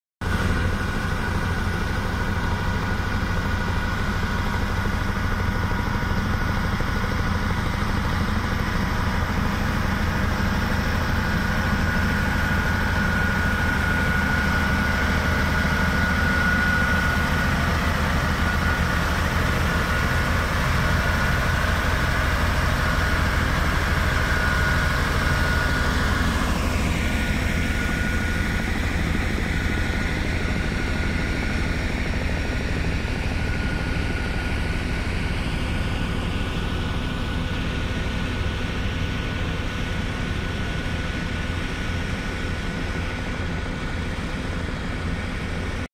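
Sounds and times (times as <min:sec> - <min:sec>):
diesel road roller engine running: 0:00.2 - 0:45.9
high whine: 0:00.2 - 0:45.9.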